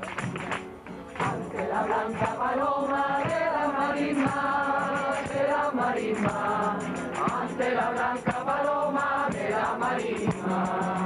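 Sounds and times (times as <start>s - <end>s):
group of voices singing: 1.2s - 11.0s.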